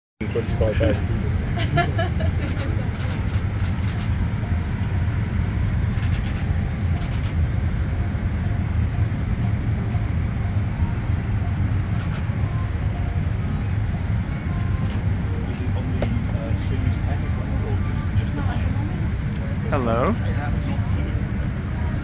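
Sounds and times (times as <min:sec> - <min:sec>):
airliner cabin rumble: 0:00.2 - 0:22.0.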